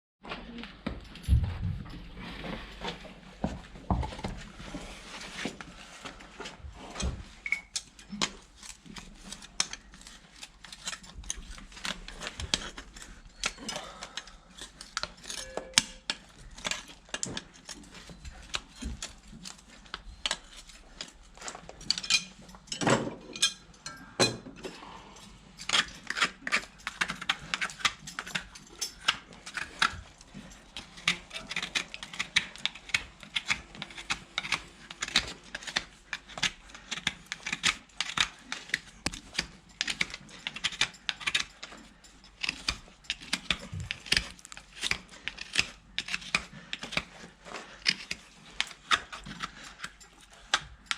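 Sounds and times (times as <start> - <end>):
hoof tools scraping a hoof: 1.9 - 22.7, 24.7 - 50.9.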